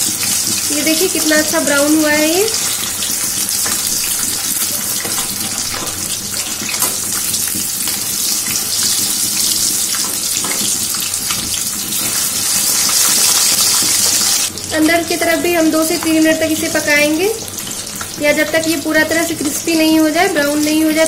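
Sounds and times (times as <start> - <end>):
fish frying in oil: 0.0 - 21.0.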